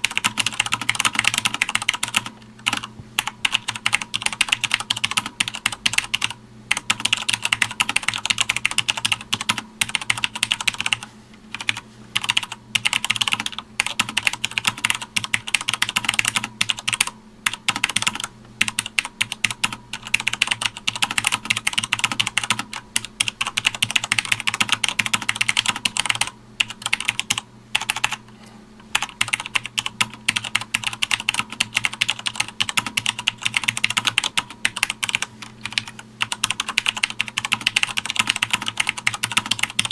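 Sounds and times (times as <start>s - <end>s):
mechanical keyboard typing: 0.0s - 28.2s, 28.9s - 39.9s
faint steady hum: 0.0s - 39.9s.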